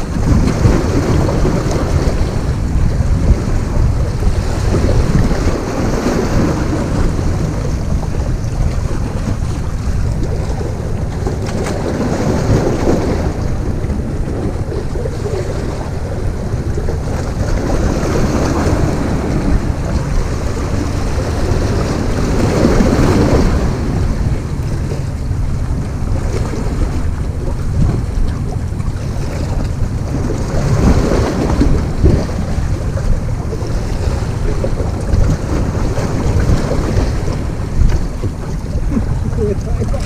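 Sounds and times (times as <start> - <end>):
waves washing against rocks: 0.0 - 40.0
wind rumbling on microphone: 0.0 - 40.0.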